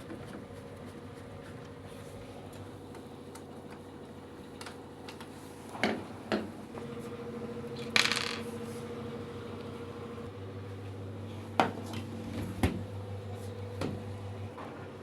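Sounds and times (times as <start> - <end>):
low electric hum: 0.0 - 15.0.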